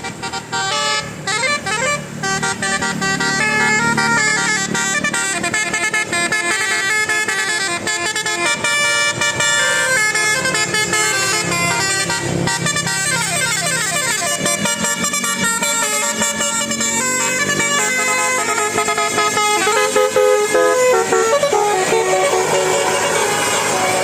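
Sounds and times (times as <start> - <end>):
bus musical air horn tune: 0.0 - 24.0.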